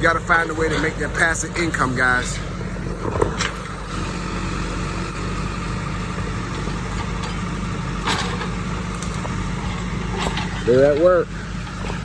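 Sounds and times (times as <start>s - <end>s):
heavy equipment diesel engine: 0.0s - 12.0s.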